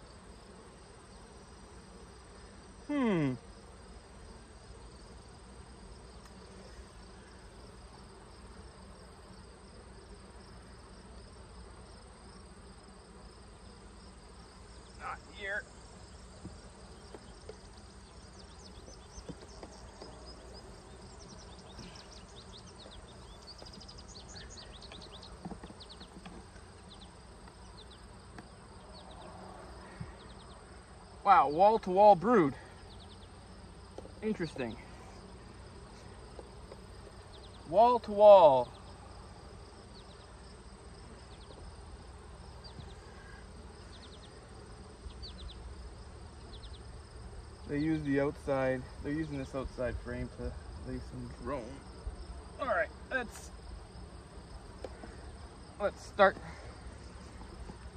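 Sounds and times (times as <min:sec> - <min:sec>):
honeybees humming: 0:00.0 - 0:57.9.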